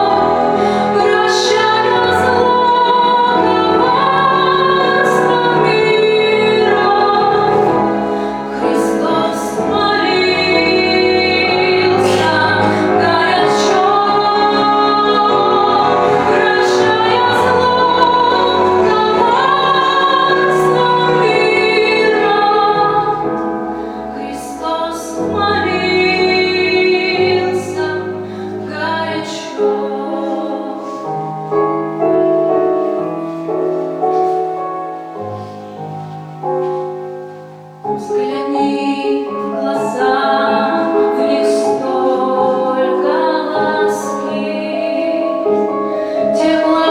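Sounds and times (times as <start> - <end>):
woman singing: 0.0 - 31.3, 37.9 - 46.9
piano accompaniment: 0.0 - 46.9.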